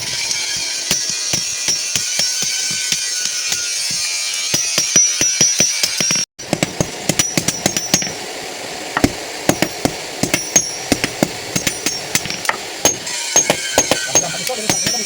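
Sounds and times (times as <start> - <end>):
hammer striking metal blade: 0.0 - 8.1, 9.5 - 15.0.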